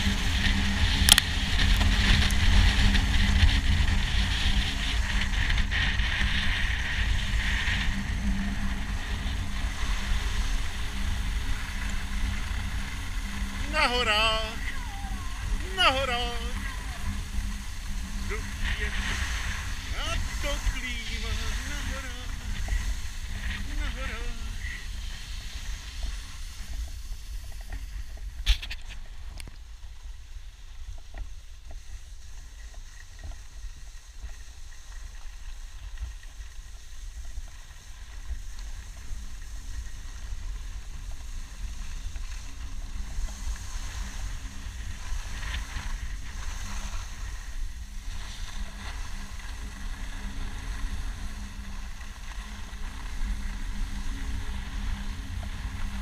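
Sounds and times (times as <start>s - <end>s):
skis sliding on packed snow: 0.0s - 56.0s.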